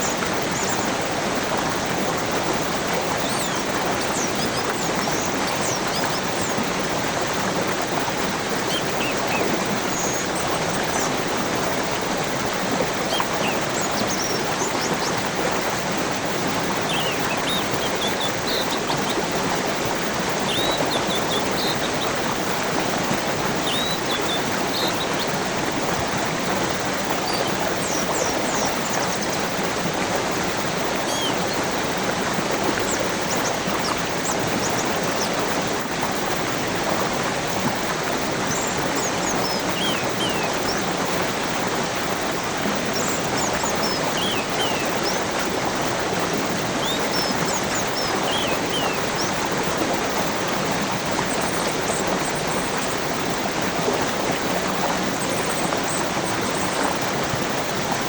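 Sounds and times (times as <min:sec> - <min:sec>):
birds chirping: 0:00.0 - 0:53.8
stream rushing: 0:00.0 - 0:58.0.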